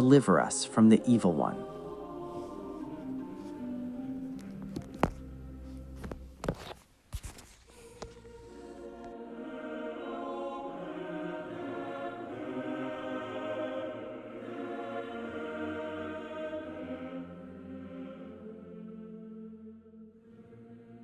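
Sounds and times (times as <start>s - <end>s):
choir singing sustained chords: 0.0s - 6.0s, 7.8s - 21.0s.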